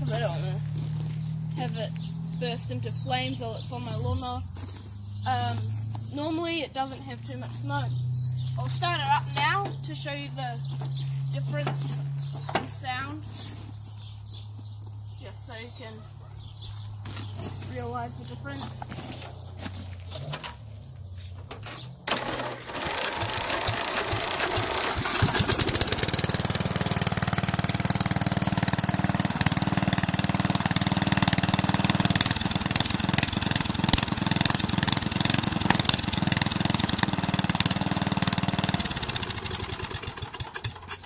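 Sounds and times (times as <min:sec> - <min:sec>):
lawn mower engine running: 0:00.0 - 0:41.0.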